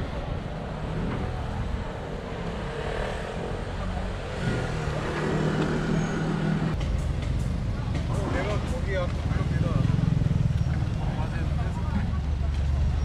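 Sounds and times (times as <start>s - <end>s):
traffic rumble: 0.0s - 13.0s
vehicle engine approaching: 0.0s - 13.0s.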